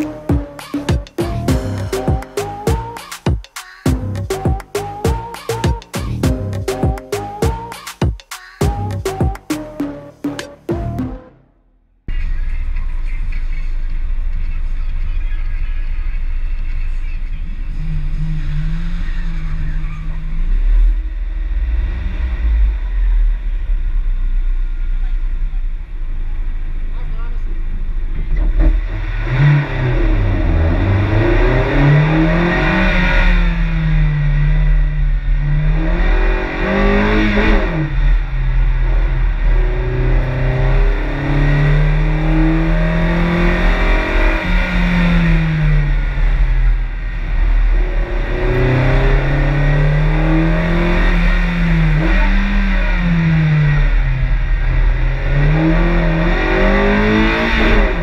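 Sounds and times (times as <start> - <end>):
car engine revving: 0.0 - 3.2, 3.9 - 8.0, 8.7 - 58.0.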